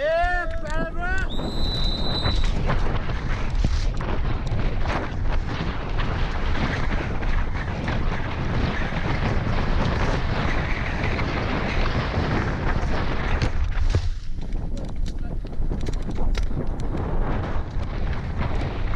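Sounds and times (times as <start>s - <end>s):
bike tyres rumbling on dirt trail: 0.0s - 18.9s
wind buffeting microphone: 0.0s - 18.9s.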